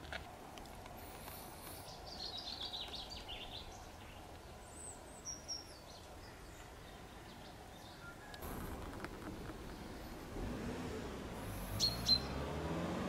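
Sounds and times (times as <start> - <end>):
faint low background rumble: 0.0 - 12.3
small birds chirping: 0.9 - 8.5, 9.2 - 12.6.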